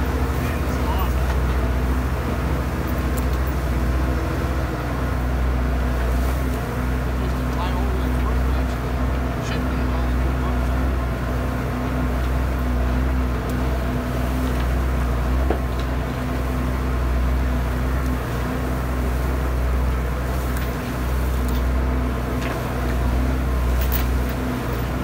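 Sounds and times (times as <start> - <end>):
tractor engine drone: 0.0 - 25.0.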